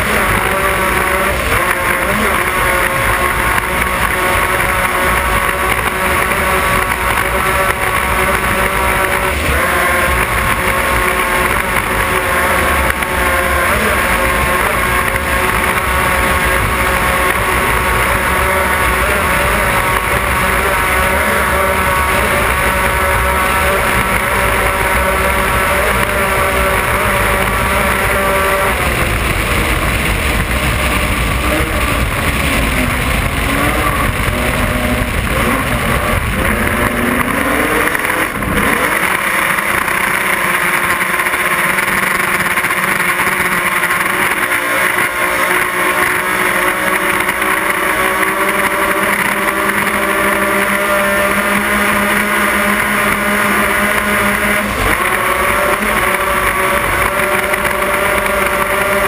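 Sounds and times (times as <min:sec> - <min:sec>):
powerboat engines droning: 0:00.0 - 0:59.0.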